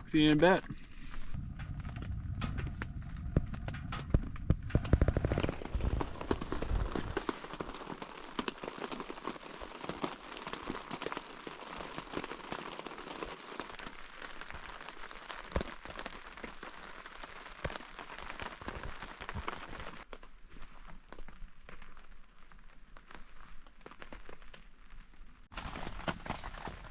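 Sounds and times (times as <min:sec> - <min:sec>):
rain pattering on a tent: 0:00.0 - 0:26.9.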